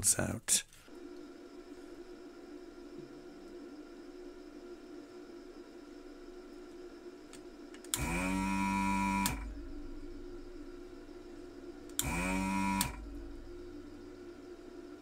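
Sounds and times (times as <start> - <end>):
desoldering pump whine: 0.8 - 15.0.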